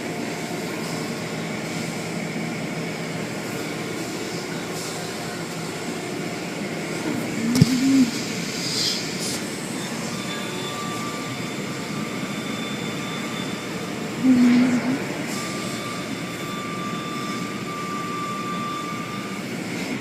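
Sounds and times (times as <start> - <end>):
car wash machinery and spray: 0.0 - 14.2, 14.9 - 20.0.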